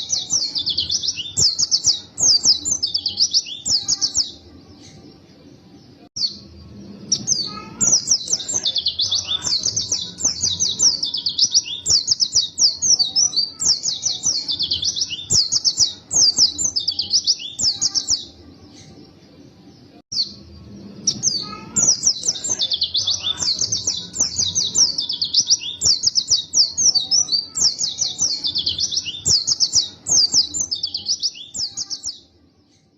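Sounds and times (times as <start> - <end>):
bird twittering song: 0.0 - 32.9.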